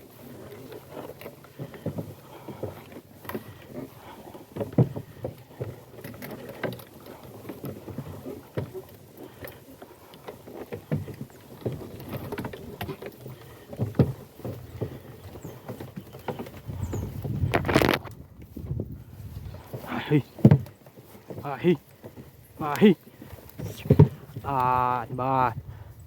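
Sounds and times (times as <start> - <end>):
wooden knocks and clatter: 0.3 - 25.8.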